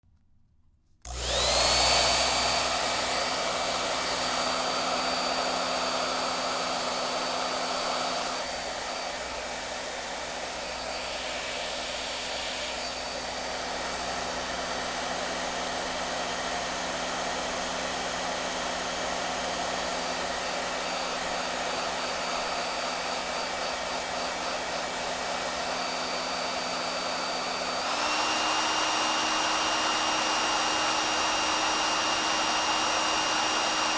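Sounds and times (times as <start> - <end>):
hair dryer whine and air rush: 1.0 - 33.9.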